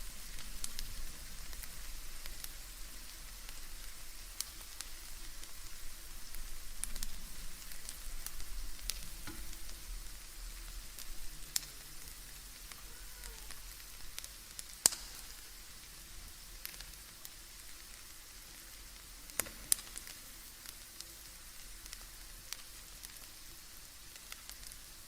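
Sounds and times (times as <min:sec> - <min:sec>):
bacon sizzling in a pan: 0:00.0 - 0:25.0
sharp pops of hot fat: 0:00.2 - 0:15.9, 0:16.6 - 0:23.4, 0:24.0 - 0:24.9.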